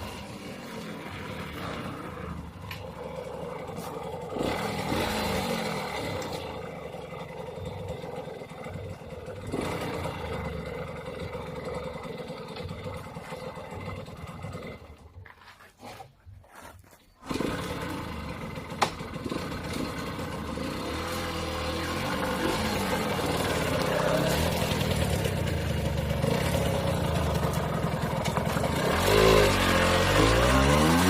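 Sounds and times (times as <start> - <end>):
small two-stroke engine running: 0.0 - 15.1, 17.2 - 31.0.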